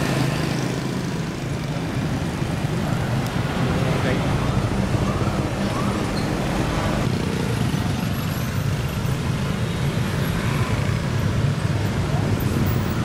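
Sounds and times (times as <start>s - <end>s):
motorbike engines passing: 0.0s - 13.0s
road noise: 0.0s - 13.0s.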